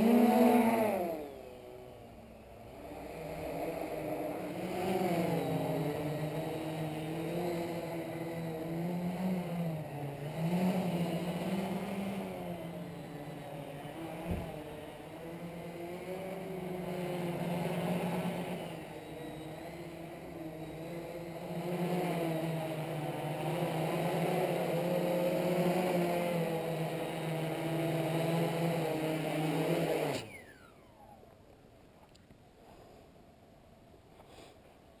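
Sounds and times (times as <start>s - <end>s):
drone motors buzzing: 0.0s - 31.4s.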